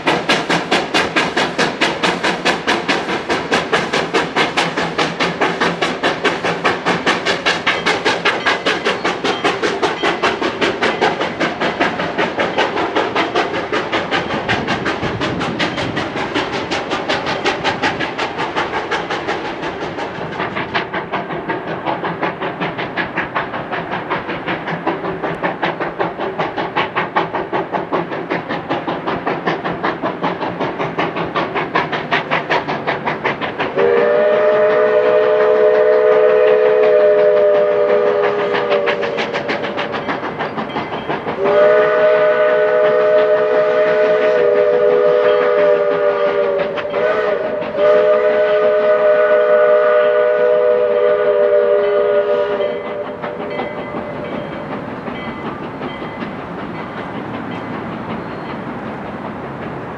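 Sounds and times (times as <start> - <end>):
steam locomotive chuffing: 0.0 - 59.9.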